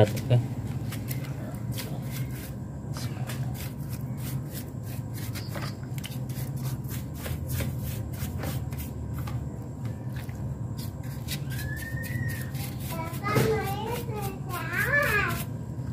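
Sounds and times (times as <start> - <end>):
brush scrubbing engine casing: 0.8 - 9.0, 10.2 - 15.6.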